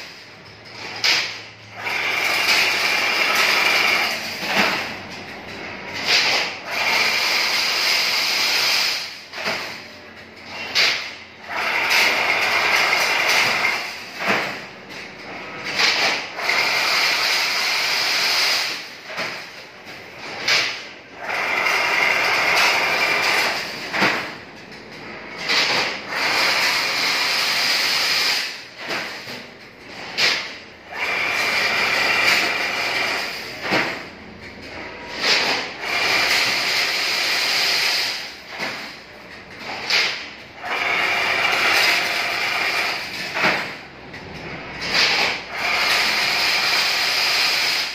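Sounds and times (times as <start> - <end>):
weaving machine running: 0.0 - 47.9.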